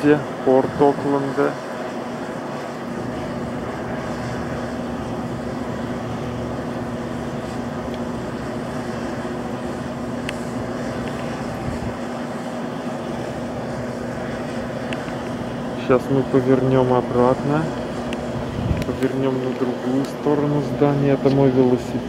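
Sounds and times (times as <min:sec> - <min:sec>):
air conditioning drone: 0:00.0 - 0:22.0.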